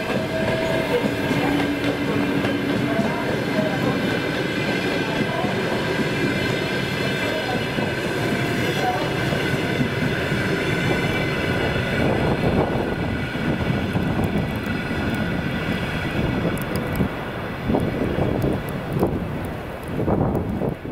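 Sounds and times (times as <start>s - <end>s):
train wheel-on-rail rumble: 0.0s - 20.9s.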